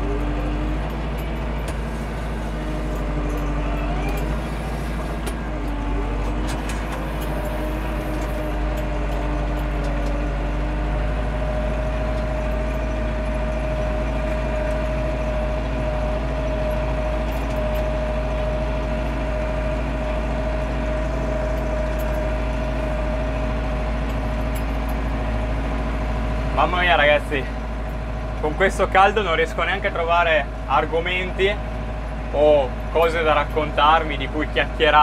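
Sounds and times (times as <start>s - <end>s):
steady whine: 0.0s - 31.6s
diesel tractor engine under load: 0.0s - 35.0s.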